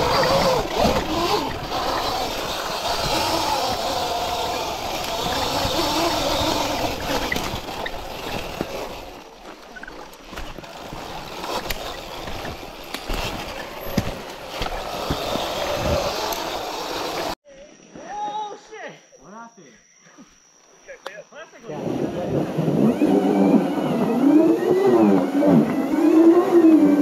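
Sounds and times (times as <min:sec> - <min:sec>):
tyre and wind noise: 0:00.0 - 0:17.4, 0:21.7 - 0:27.0.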